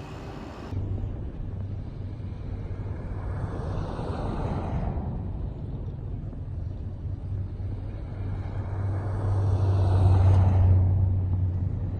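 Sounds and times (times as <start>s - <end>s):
vehicle engine rumble: 0.0s - 11.9s.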